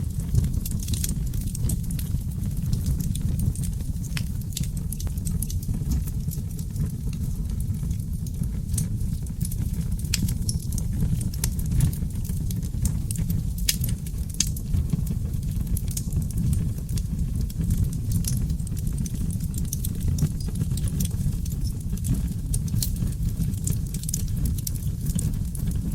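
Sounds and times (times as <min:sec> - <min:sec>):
low rumble of burning logs: 0:00.0 - 0:25.9
wood fire crackling: 0:00.0 - 0:25.9.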